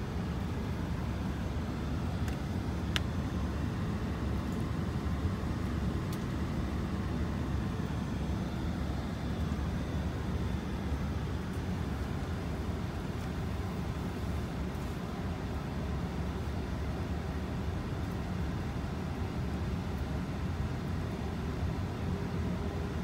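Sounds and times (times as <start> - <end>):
airplane cabin rumble: 0.0 - 22.7.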